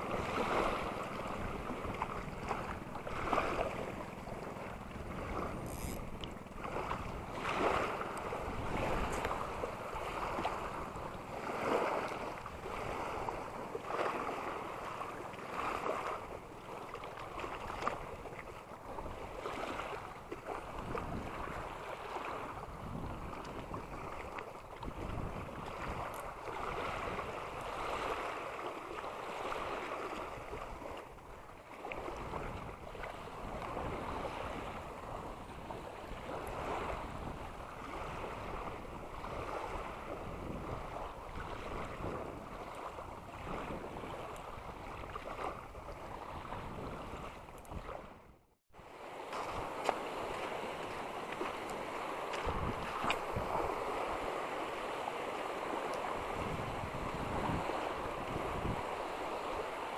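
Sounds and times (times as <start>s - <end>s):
wind gusting on microphone: 0.0s - 13.5s, 20.7s - 28.3s, 32.0s - 48.4s, 49.2s - 59.9s
small waves lapping on shore: 0.0s - 59.9s.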